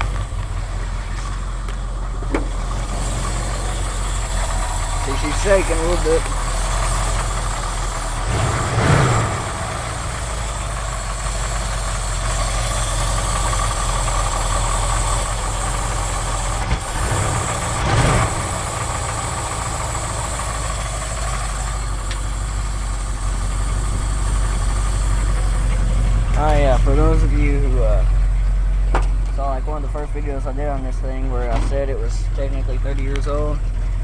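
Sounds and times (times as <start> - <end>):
engine idling roughly: 0.0 - 34.0.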